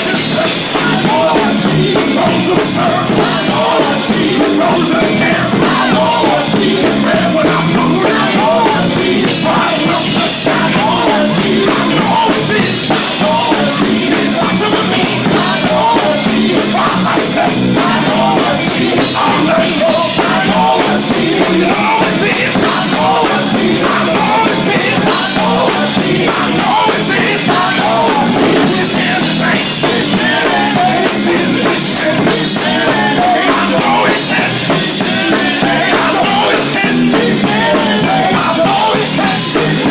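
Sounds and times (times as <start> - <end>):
drum kit playing: 0.0 - 39.9
gospel band music: 0.0 - 39.9.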